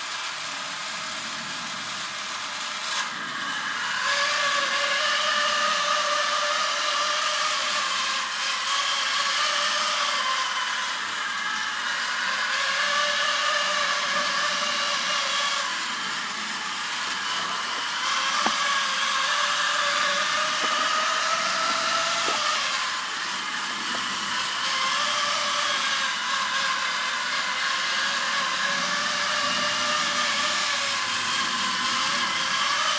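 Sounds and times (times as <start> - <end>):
toy airplane motor whirring: 0.0 - 32.9.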